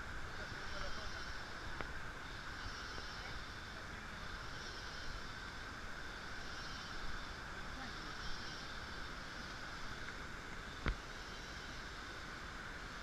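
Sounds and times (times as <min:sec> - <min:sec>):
continuous rushing noise: 0:00.0 - 0:13.0
high buzzing drone: 0:00.0 - 0:13.0.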